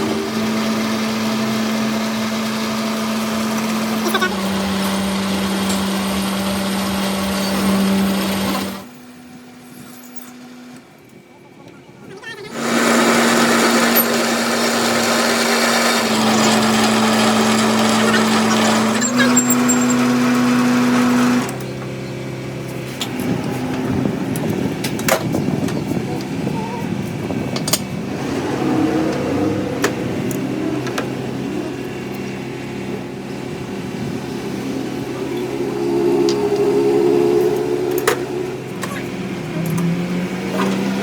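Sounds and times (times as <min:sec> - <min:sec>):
workshop machine humming and hissing: 0:00.0 - 0:41.0.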